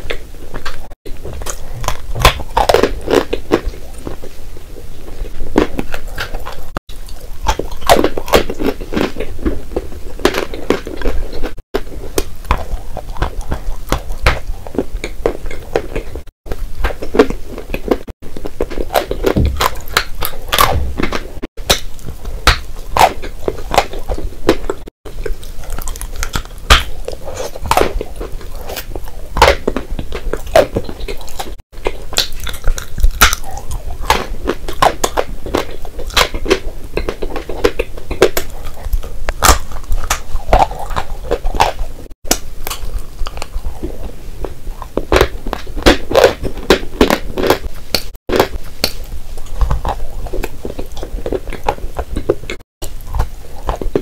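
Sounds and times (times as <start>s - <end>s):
chewing crunchy chalk: 0.0s - 54.0s.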